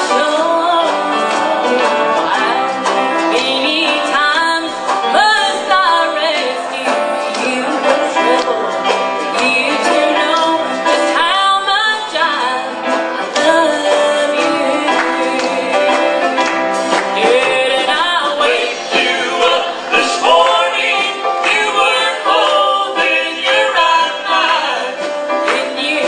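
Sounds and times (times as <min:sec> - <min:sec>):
gospel singing with instruments: 0:00.0 - 0:26.0.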